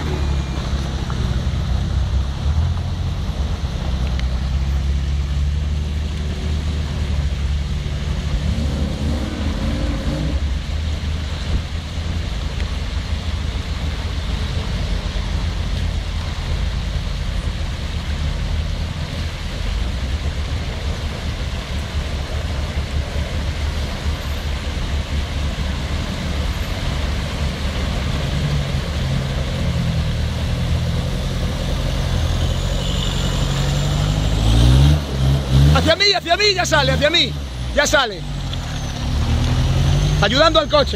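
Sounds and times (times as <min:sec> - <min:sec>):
off-road truck engine running: 0:00.0 - 0:40.9
water rushing: 0:00.0 - 0:40.9.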